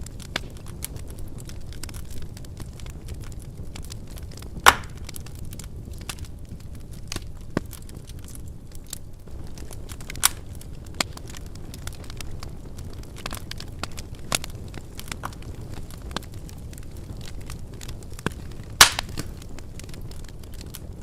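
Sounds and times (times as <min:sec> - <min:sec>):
fire rumbling: 0:00.0 - 0:21.0
wood crackling and popping: 0:00.0 - 0:21.0.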